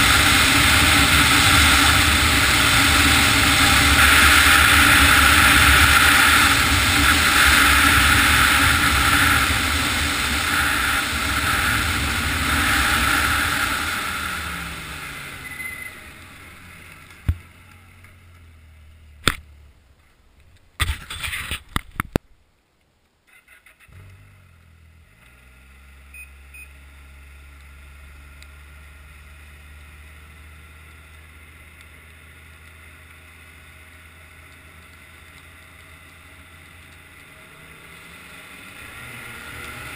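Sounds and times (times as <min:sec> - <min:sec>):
snowmobile engine: 0:00.0 - 0:19.8, 0:23.9 - 0:39.9.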